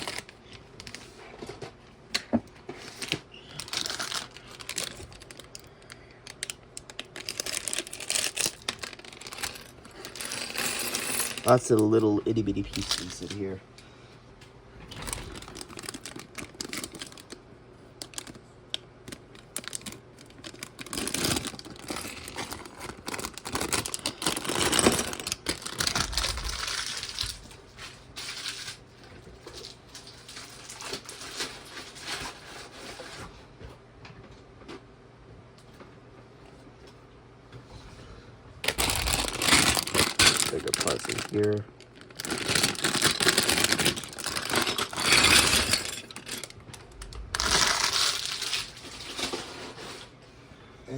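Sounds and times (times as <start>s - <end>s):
plastic bags crinkling: 0.0s - 1.6s, 2.6s - 13.6s, 14.9s - 33.2s, 38.6s - 50.1s
plastic pieces clattering: 0.0s - 1.7s, 2.7s - 13.6s, 14.9s - 17.4s, 18.0s - 18.4s, 19.0s - 33.0s, 38.6s - 50.1s.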